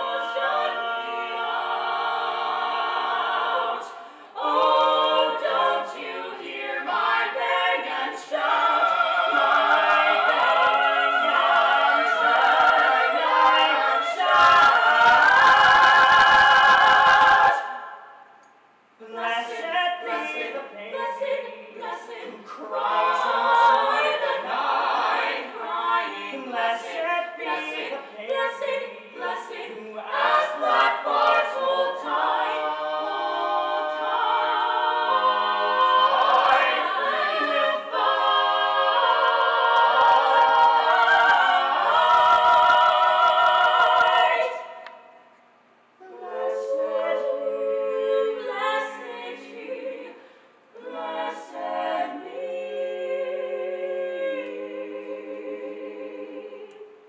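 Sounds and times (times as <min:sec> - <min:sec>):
vocal ensemble singing: 0:00.0 - 0:45.4, 0:46.0 - 0:57.0.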